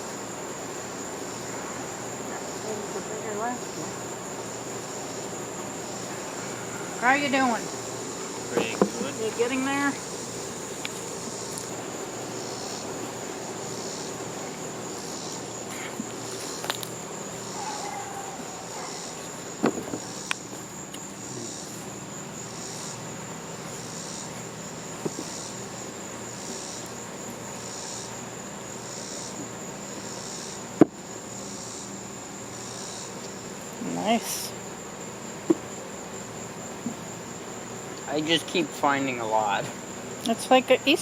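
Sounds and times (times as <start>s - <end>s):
crickets trilling: 0.0s - 41.0s
high-pitched insect chorus: 0.0s - 41.0s.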